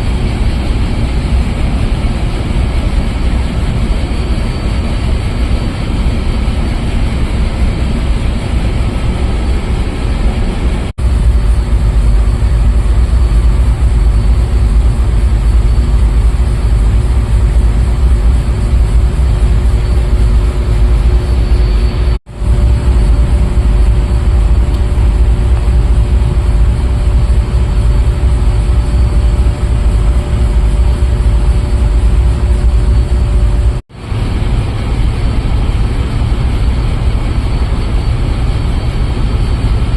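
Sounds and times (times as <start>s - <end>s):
ship machinery drone: 0.0s - 39.9s
steady humming tones: 0.0s - 39.9s.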